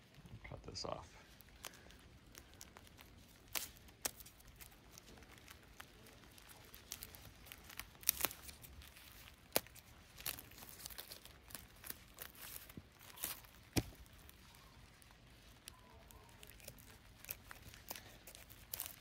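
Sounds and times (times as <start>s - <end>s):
plastic wrap crinkling: 0.0s - 19.0s
scissors snipping: 1.4s - 14.9s, 15.6s - 19.0s.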